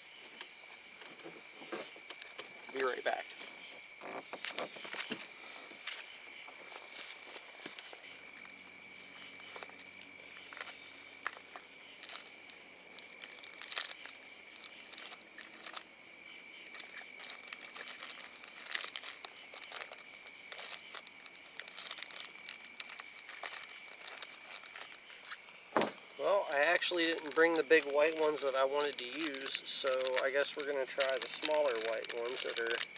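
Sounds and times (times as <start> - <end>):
high trill of night insects: 0.0 - 32.9
plastic packets crinkling: 1.4 - 32.9.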